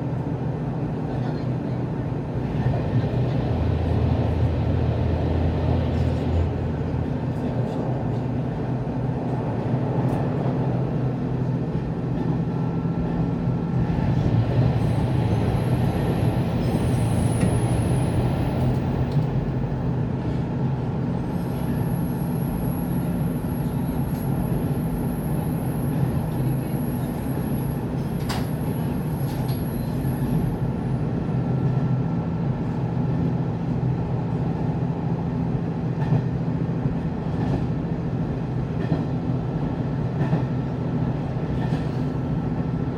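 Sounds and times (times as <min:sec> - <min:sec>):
railcar engine and rail rumble: 0:00.0 - 0:42.9.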